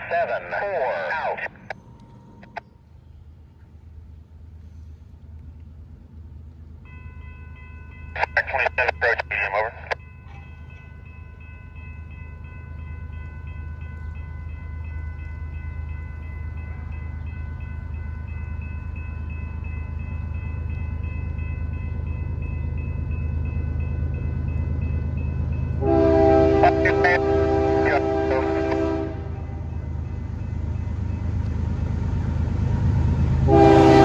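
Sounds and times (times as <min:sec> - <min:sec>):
train locomotive rumble: 0:00.0 - 0:34.0.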